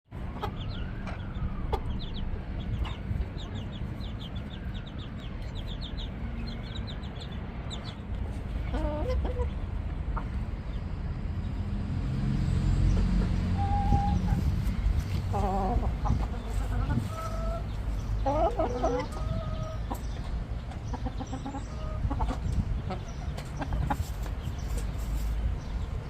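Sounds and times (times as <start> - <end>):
chickens clucking: 0.3 - 10.9, 12.8 - 25.8.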